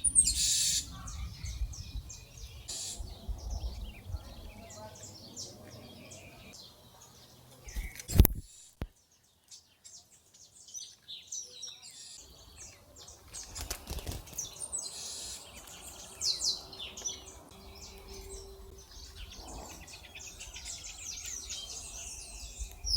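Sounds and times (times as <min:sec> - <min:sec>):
small songbirds chirping: 0:00.0 - 0:22.9.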